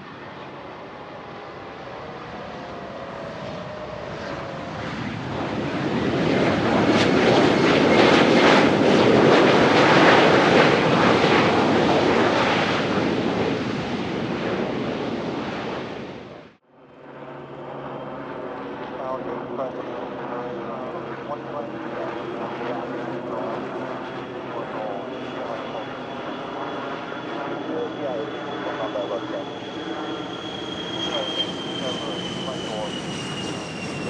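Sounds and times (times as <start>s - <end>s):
jet aircraft passing: 0.0s - 34.0s.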